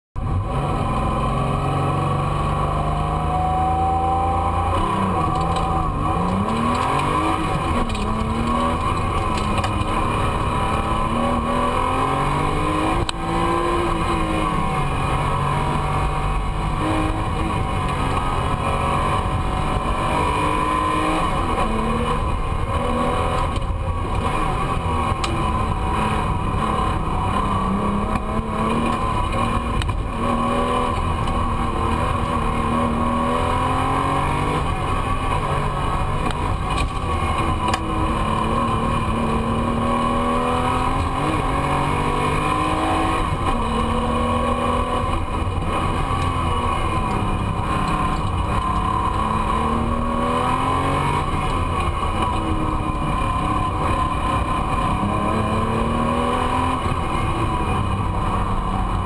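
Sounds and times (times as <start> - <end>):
race car engine revving: 0.2 - 59.0.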